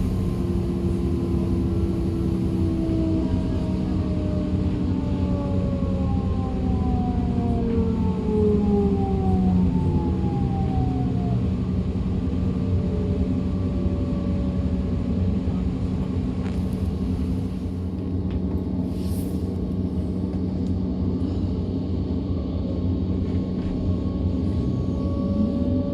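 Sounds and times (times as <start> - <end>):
train running gear rumble: 0.0 - 25.9.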